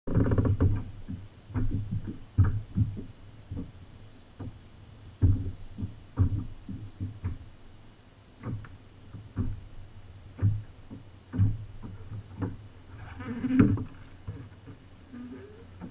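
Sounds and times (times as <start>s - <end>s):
faint steady hiss: 0.1s - 15.9s
waves thumping kayak hull: 0.1s - 15.9s.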